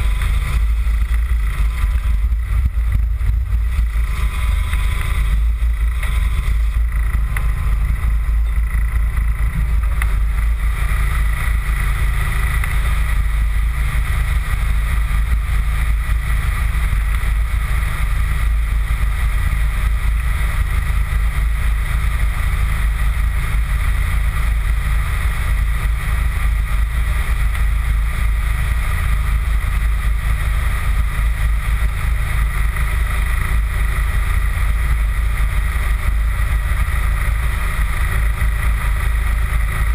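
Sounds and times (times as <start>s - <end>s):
car engine idling: 0.0s - 39.9s
wind rumbling on microphone: 0.0s - 39.9s.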